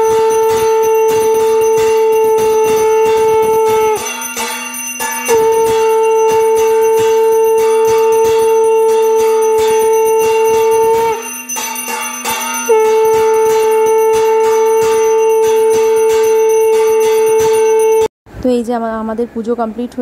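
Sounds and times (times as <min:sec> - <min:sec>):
conch shell blown: 0:00.0 - 0:18.1
hand bell ringing rapidly: 0:00.0 - 0:18.1.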